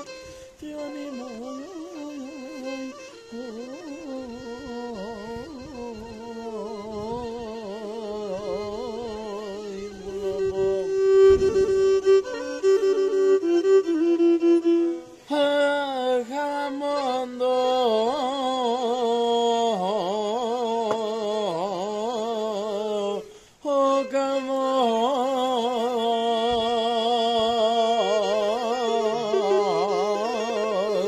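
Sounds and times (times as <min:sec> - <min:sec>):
man singing folk song: 0:00.0 - 0:31.0.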